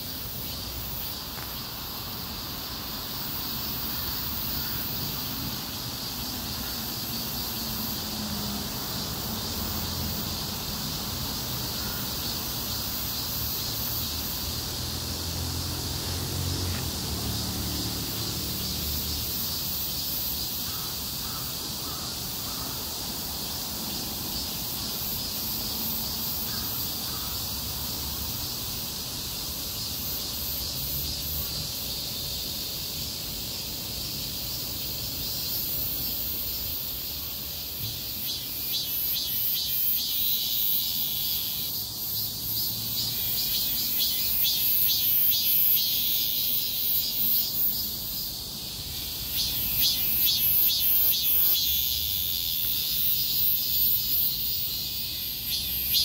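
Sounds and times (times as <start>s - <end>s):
cicadas chorus: 0.0s - 56.0s
rapidly pulsing insect call: 0.0s - 56.0s.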